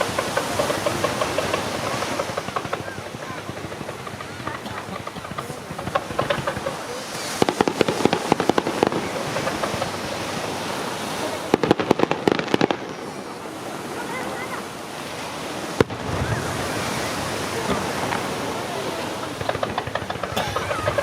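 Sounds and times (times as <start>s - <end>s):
fireworks crackling bangs: 0.0s - 21.0s.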